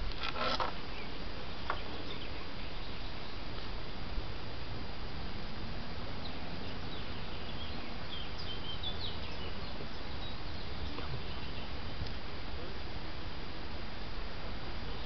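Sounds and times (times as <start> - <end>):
small birds chirping: 0.0 - 4.1, 5.9 - 13.4, 14.4 - 15.0
low background noise: 0.0 - 15.0.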